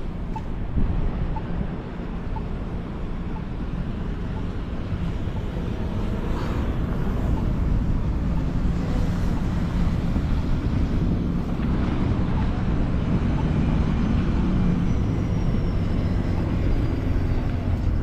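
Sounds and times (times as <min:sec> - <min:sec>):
city street traffic rumble: 0:00.0 - 0:18.0
faint engine hum: 0:00.0 - 0:18.0.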